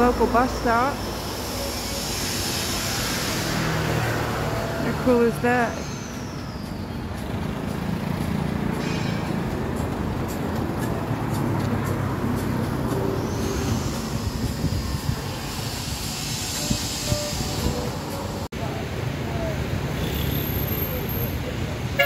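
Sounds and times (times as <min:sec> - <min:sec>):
road traffic: 0:00.0 - 0:22.0
vehicle engine droning: 0:00.0 - 0:22.0.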